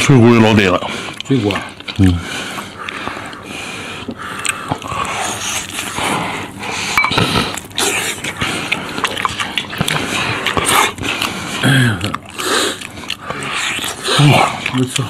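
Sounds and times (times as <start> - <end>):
open-mouthed chewing and smacking: 0.0 - 15.0.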